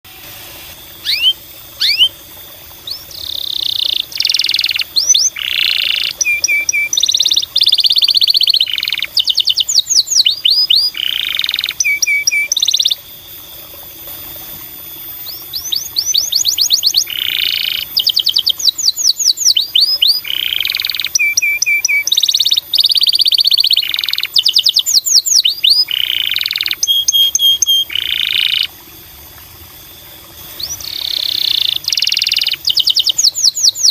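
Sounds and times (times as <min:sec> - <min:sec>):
canary singing trills: 0:01.0 - 0:02.2, 0:02.8 - 0:13.0, 0:15.2 - 0:28.7, 0:30.6 - 0:33.9.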